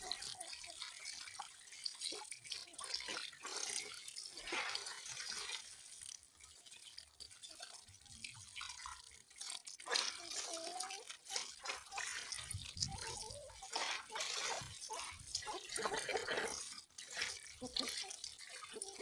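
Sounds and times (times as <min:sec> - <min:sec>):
water dripping and splashing: 0:00.0 - 0:19.0.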